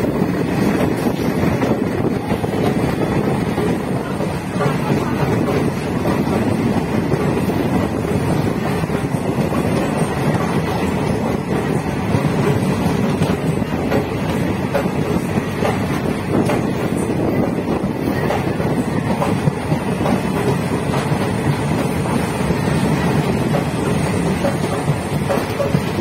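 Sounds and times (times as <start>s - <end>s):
train running on board: 0.0s - 26.0s.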